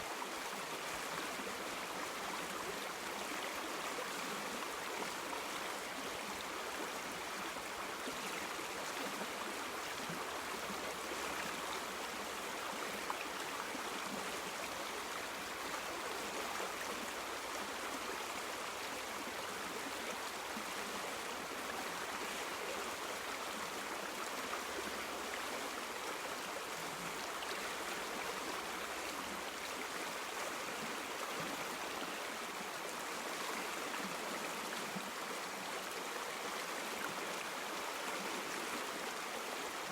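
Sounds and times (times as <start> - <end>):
stream flowing over stones: 0.1 - 39.9.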